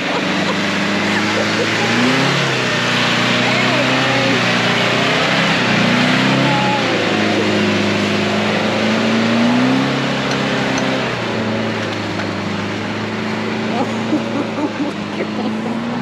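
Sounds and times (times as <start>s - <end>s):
engine working hard: 0.0s - 16.0s.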